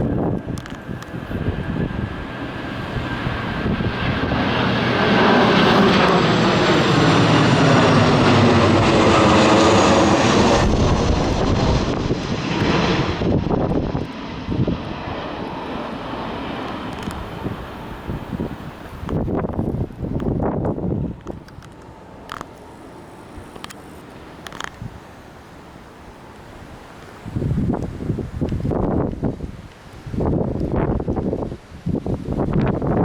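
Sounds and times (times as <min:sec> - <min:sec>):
jet engines passing overhead: 0:00.0 - 0:33.0.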